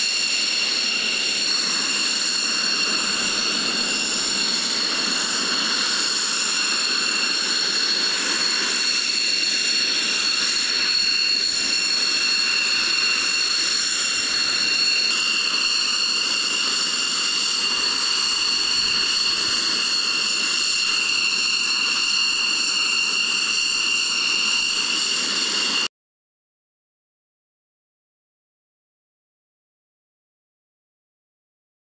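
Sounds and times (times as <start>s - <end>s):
jet engine whine: 0.0s - 25.9s.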